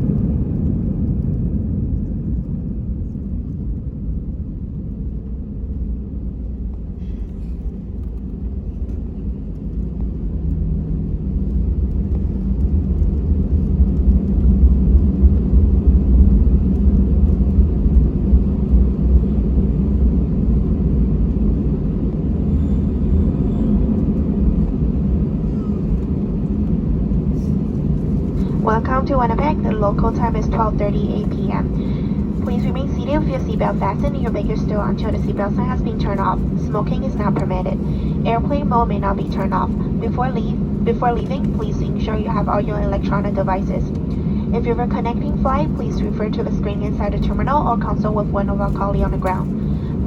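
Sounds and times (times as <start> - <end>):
aircraft cabin engine rumble: 0.0 - 50.0.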